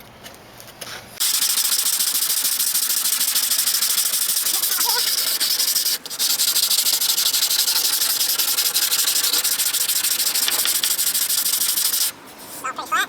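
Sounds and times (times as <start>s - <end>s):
sanding body filler: 1.2s - 12.6s.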